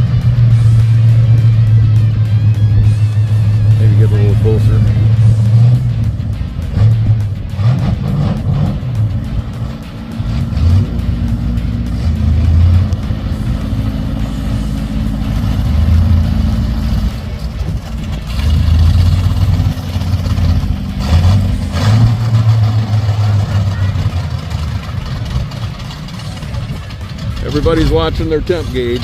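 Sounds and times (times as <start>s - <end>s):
car engines rumbling: 0.0s - 29.0s.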